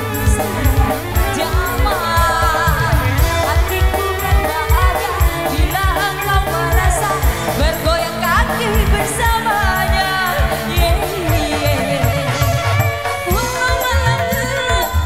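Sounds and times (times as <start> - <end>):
keyboard: 0.0 - 15.0
steady drum beat: 0.0 - 15.0
woman singing: 0.0 - 15.0.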